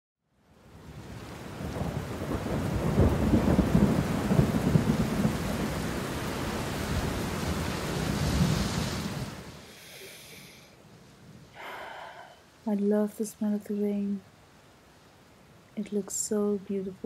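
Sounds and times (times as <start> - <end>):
heavy rain on stone: 0.4 - 17.0.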